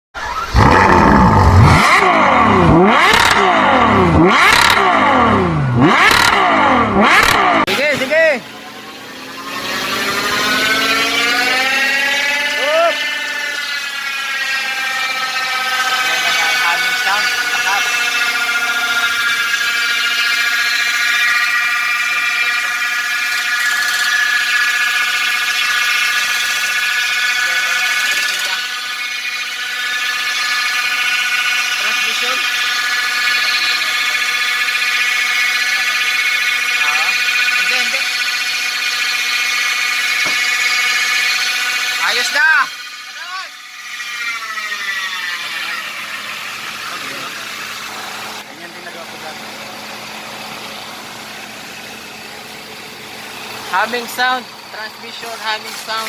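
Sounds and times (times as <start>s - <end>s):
car transmission whine: 0.1s - 56.0s.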